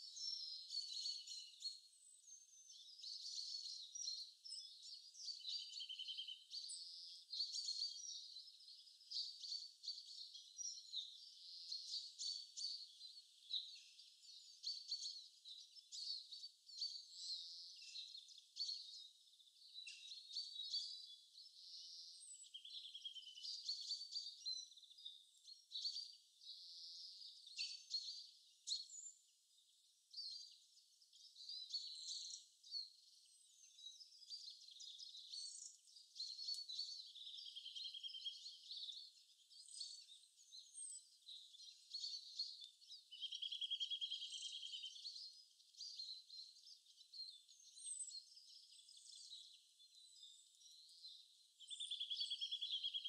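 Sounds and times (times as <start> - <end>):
birds chirping and trilling: 0.0 - 53.0.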